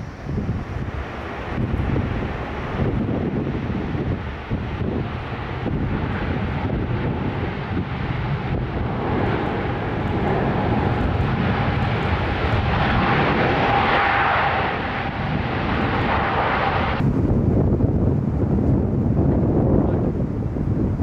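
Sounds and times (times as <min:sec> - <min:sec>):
jet engine whine: 0:00.0 - 0:21.0
jet engines rumbling: 0:00.0 - 0:21.0.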